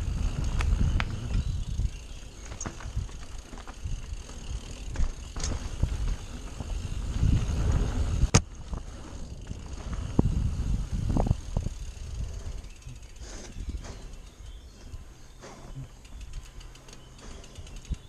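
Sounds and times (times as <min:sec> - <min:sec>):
bike rattling and knocking: 0:00.0 - 0:18.0
bike tyres rumbling on dirt: 0:00.0 - 0:18.0
wind: 0:00.0 - 0:18.0.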